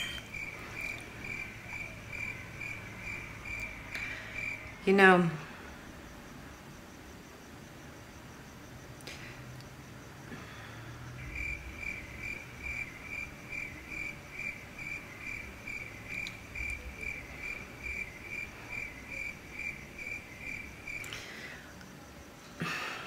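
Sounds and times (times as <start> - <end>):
cricket chirping: 0.0 - 23.0.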